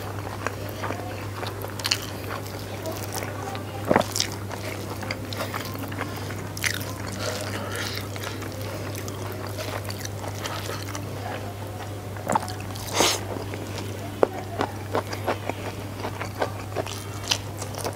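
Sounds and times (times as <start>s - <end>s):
fingers squishing food: 0.0s - 17.9s.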